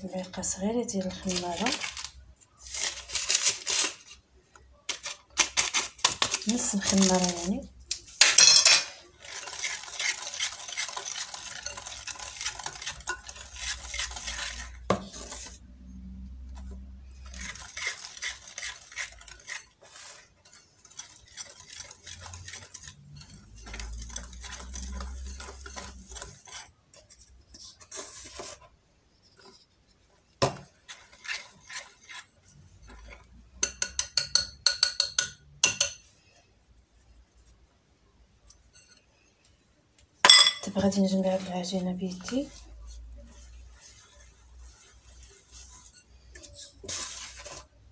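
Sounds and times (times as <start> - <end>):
whisk scraping a bowl: 0.2 - 4.2, 4.9 - 7.7, 9.0 - 36.4, 38.4 - 39.4, 40.8 - 47.9.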